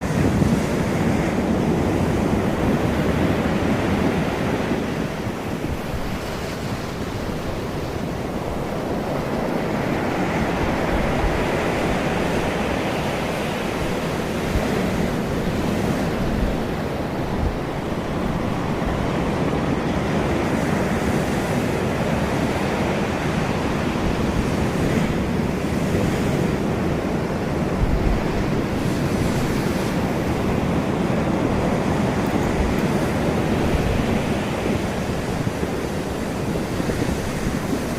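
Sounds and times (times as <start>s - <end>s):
sea surf washing onto beach: 0.0s - 37.9s
wind buffeting microphone: 0.0s - 37.9s.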